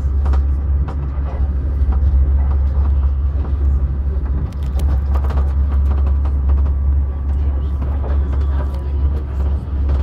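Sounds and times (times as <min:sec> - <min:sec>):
train rumble from inside carriage: 0:00.0 - 0:10.0.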